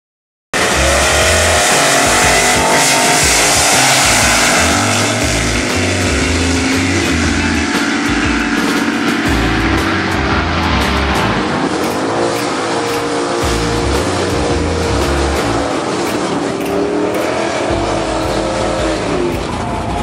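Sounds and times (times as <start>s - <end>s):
music with stepping bass line: 0.6s - 20.0s
racing car engines accelerating: 0.6s - 20.0s.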